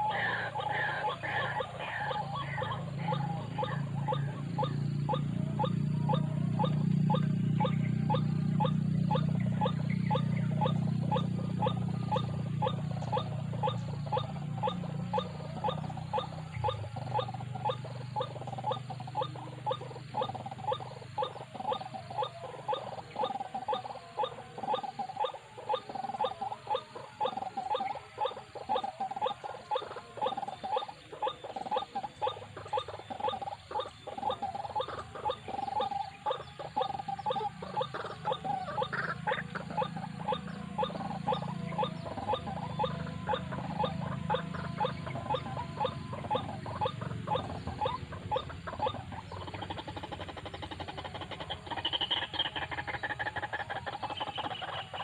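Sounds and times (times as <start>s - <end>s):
waterhen calls: 0.0s - 55.0s.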